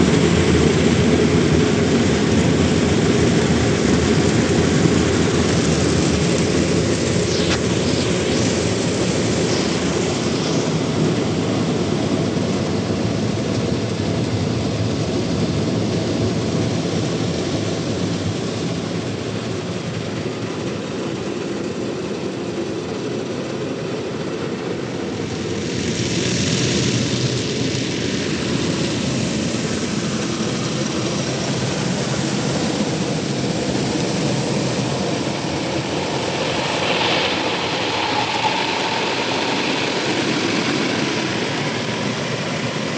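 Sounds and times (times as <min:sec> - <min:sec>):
car wash machinery and water: 0:00.0 - 0:42.9.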